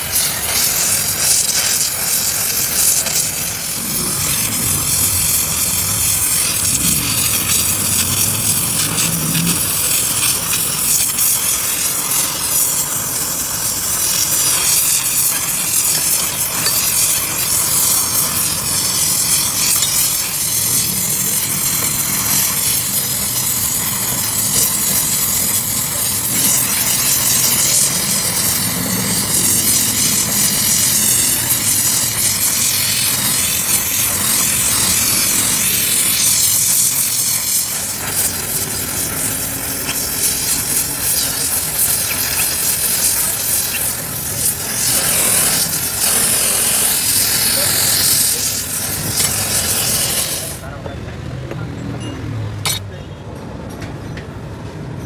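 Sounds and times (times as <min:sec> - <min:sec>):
cutting torch hissing: 0:00.0 - 0:50.8, 0:52.6 - 0:52.9.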